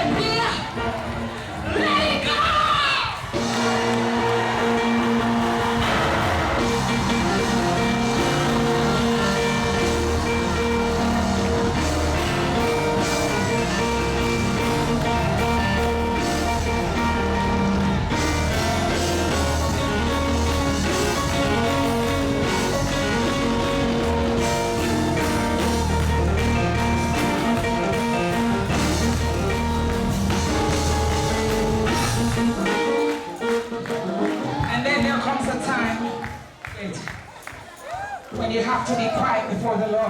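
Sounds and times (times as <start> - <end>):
gospel band playing: 0.0 - 38.2.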